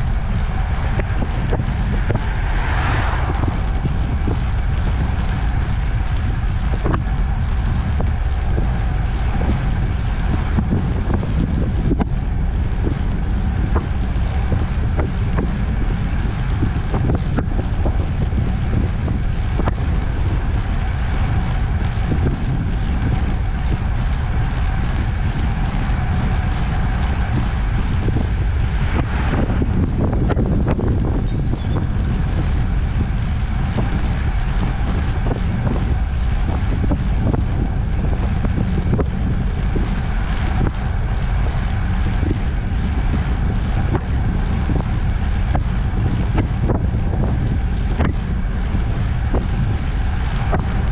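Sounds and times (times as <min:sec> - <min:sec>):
faint steady whine: 0:00.0 - 0:50.9
tyres rolling on road: 0:00.0 - 0:50.9
wind buffeting microphone: 0:00.0 - 0:50.9.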